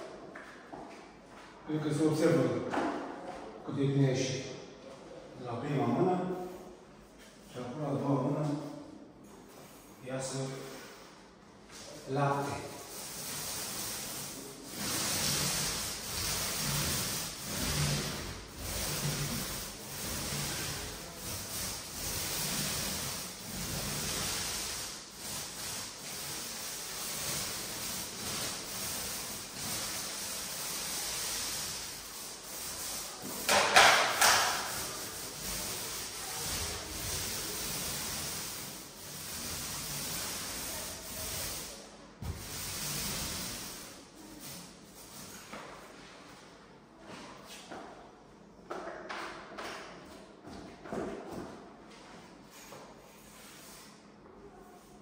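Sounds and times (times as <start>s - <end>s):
paint roller swishing on wall: 6.3s - 48.1s, 48.7s - 55.0s.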